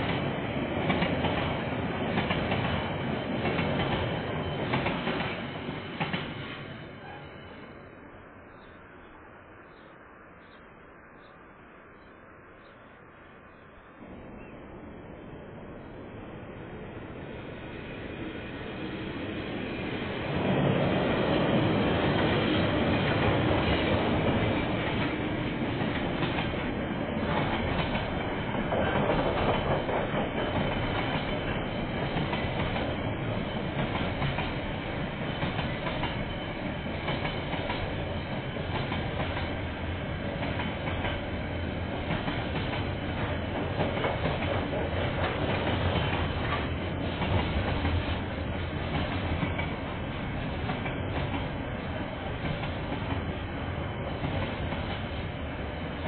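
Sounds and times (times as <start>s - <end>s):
freight train wheels rumbling: 0.0s - 8.7s, 14.0s - 56.0s.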